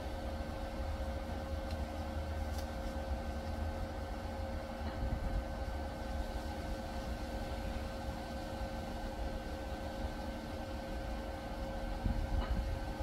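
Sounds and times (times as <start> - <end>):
electric machine hum: 0.0 - 13.0.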